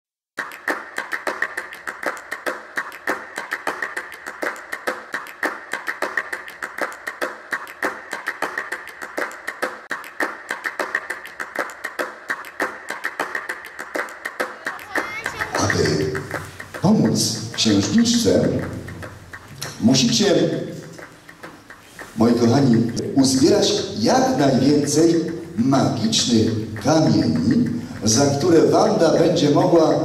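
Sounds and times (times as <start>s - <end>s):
rapid sharp taps: 0.6s - 29.8s.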